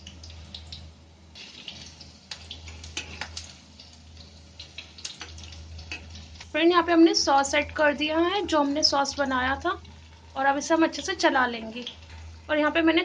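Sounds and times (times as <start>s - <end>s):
deep-frying sizzle with pops: 0.0s - 13.0s
low steady hum: 0.0s - 13.0s.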